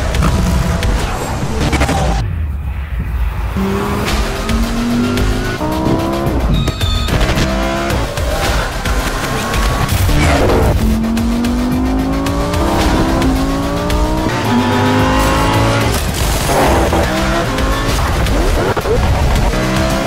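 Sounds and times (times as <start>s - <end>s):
sports car engine accelerating: 3.5s - 20.0s.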